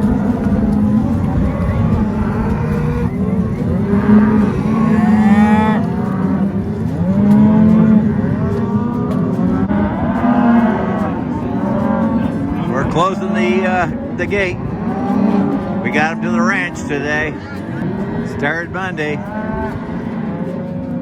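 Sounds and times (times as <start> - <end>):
cattle mooing: 0.0 - 21.0.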